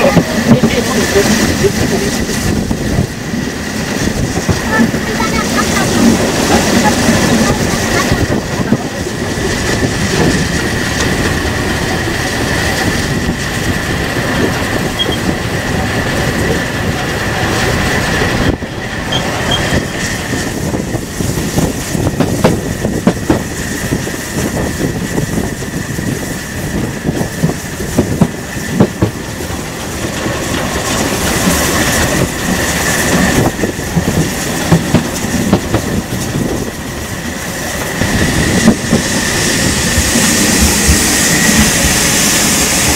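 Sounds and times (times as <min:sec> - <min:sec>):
train wheels clattering on rails: 0:00.0 - 0:42.9.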